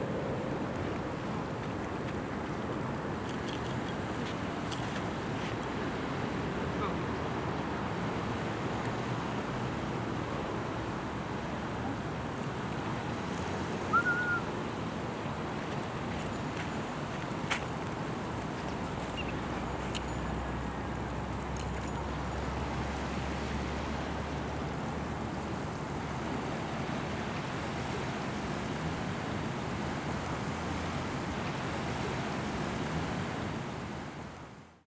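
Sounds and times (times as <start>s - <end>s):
surf washing on a beach: 0.0s - 34.6s.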